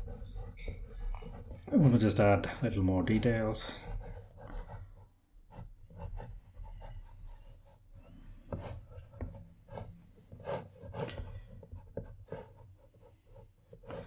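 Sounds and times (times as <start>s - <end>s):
pencil scratching on paper: 0.0s - 14.0s.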